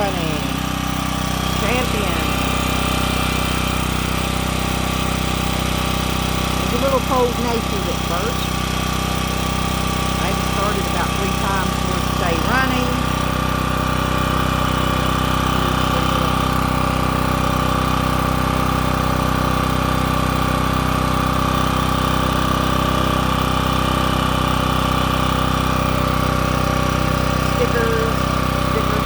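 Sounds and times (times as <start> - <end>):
generator engine running: 0.0 - 29.0.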